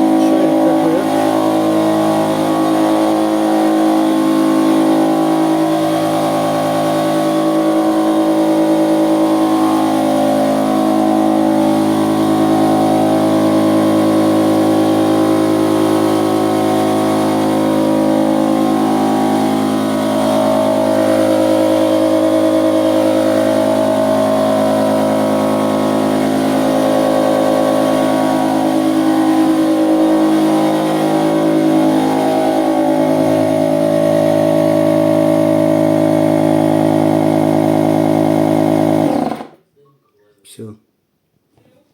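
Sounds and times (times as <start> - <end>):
outboard motor running: 0.0 - 39.6.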